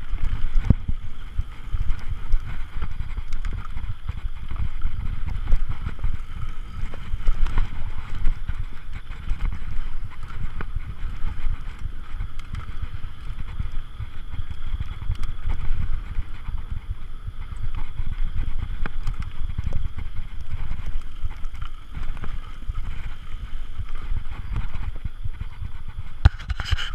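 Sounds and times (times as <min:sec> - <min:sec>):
bike tyre noise: 0:00.0 - 0:26.9
wind rumble on microphone: 0:00.0 - 0:26.9.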